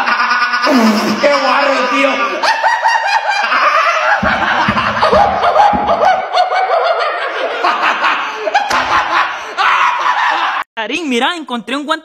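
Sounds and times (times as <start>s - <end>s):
people laughing: 0.0s - 10.6s.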